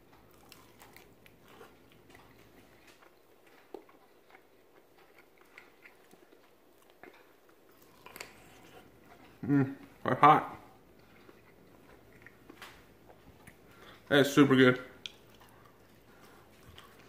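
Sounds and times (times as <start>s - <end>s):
person chewing: 0.0s - 14.1s, 15.0s - 17.0s.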